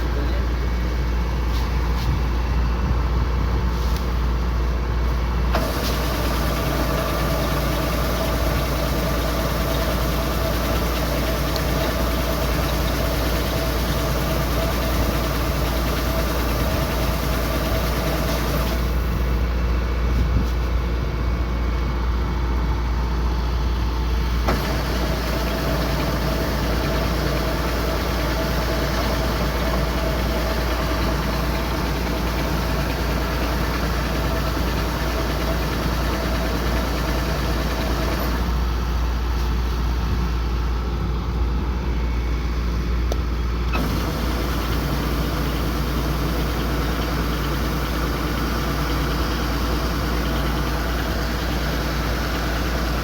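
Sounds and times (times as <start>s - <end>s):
deep engine drone: 0.0s - 53.0s
steady machine whine: 5.4s - 19.5s, 21.9s - 53.0s.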